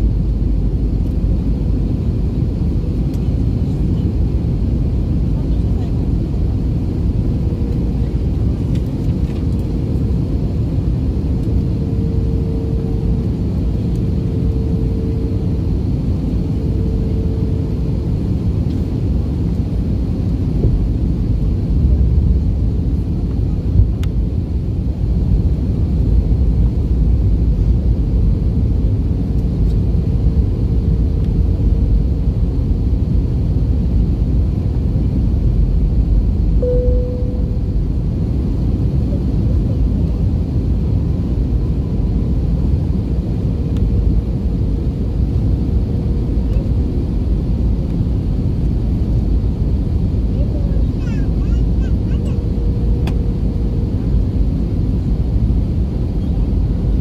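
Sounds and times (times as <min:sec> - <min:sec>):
engine and airflow rumble: 0:00.0 - 0:57.0
faint hum: 0:00.0 - 0:57.0.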